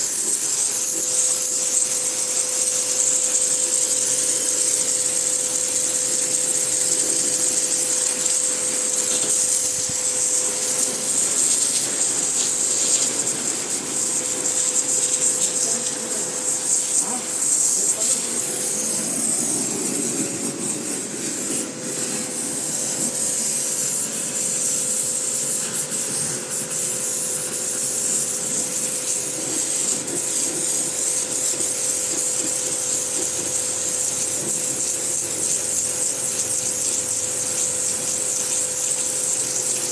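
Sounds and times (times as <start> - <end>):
pressure washer jet hissing: 0.0 - 39.9.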